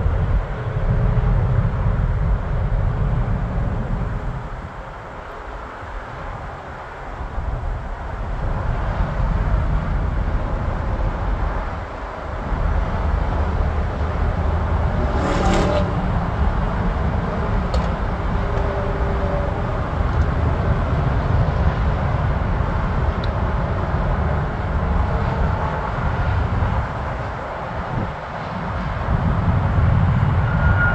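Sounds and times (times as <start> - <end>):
jet engines rumbling: 0.0 - 30.9.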